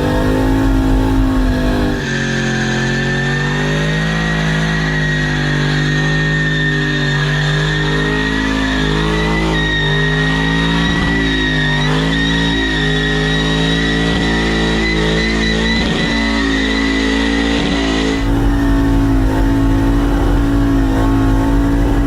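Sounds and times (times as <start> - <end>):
car engine revving high: 0.0 - 22.0
tires squealing on concrete: 0.0 - 22.0.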